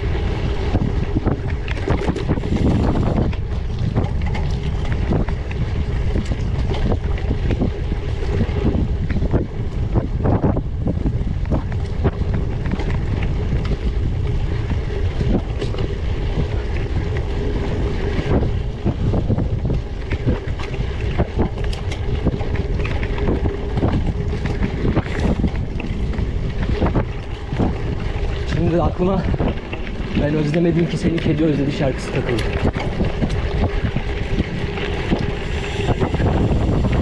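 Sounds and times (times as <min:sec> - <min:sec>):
bike tyres rolling on rough ground: 0:00.0 - 0:37.0
wind buffeting microphone: 0:00.0 - 0:37.0.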